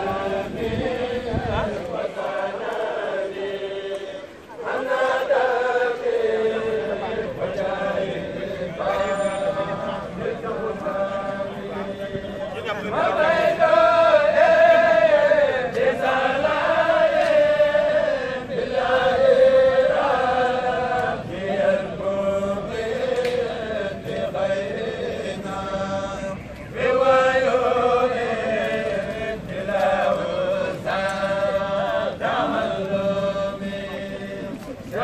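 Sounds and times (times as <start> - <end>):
men chanting together: 0.0 - 35.0.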